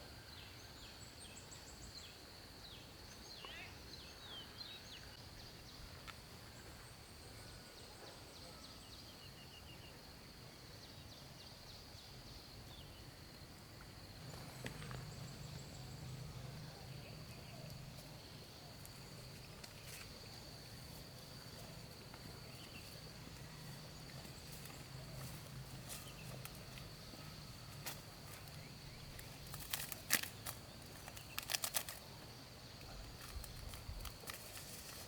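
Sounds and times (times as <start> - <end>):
high insect drone: 0.1 - 35.0.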